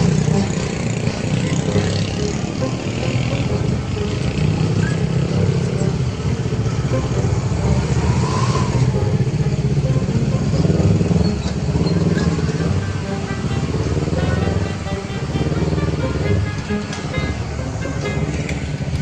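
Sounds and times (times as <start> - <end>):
heavy traffic engine rumble: 0.0 - 19.0.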